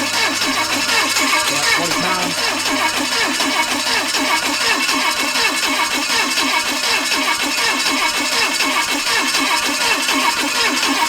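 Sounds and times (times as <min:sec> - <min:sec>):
engine idling with rhythmic exhaust: 0:00.0 - 0:11.0.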